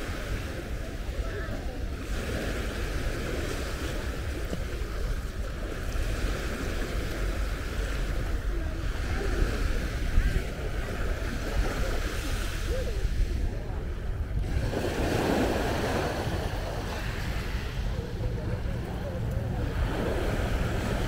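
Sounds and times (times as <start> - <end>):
faint distant voices: 0.0 - 21.0
small waves washing on shore: 0.0 - 21.0
wind rumbling on microphone: 0.0 - 21.0.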